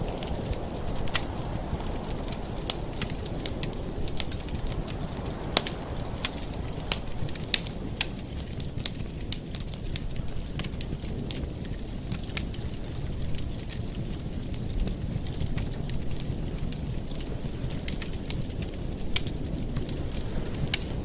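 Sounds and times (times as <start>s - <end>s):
campfire flames rushing: 0.0s - 21.0s
wood crackling and popping: 0.0s - 21.0s.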